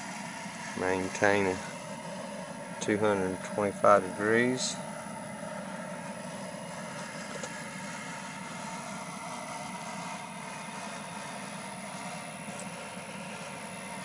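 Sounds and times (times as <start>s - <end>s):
gas burner rumbling: 0.0s - 14.0s.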